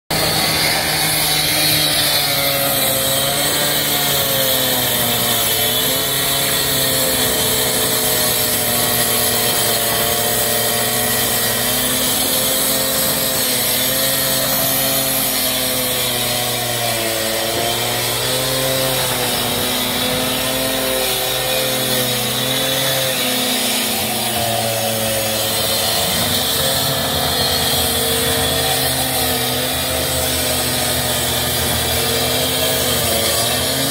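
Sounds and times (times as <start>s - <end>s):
cut-off saw cutting concrete: 0.0s - 33.9s.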